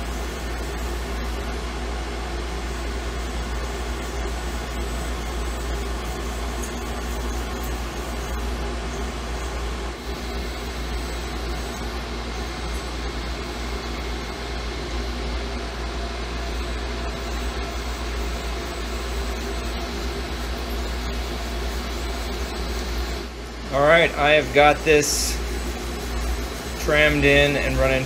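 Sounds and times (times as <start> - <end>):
milling machine hum: 0.0 - 28.0.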